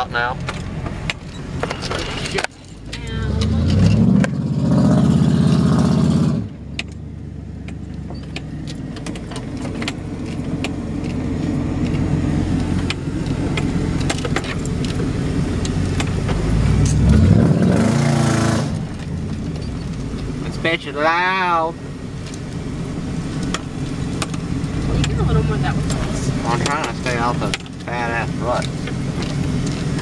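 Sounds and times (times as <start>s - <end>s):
rattles and clicks: 0.0s - 4.4s, 6.6s - 17.8s, 18.7s - 20.8s, 22.1s - 30.0s
pickup truck engine revving: 3.1s - 30.0s.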